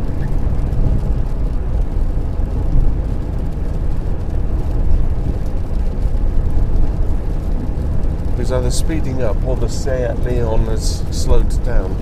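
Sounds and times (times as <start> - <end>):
car engine rumble: 0.0 - 12.0
car tyres on wet road: 0.0 - 12.0.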